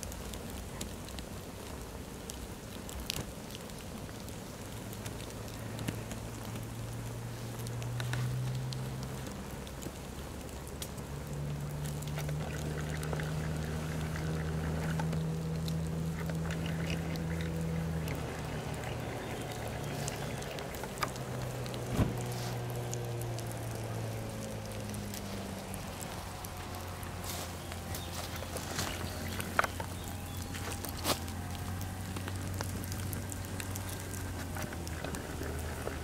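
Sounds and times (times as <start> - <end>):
fabric burning crackles: 0.0 - 36.0
low mechanical hum: 0.0 - 36.0.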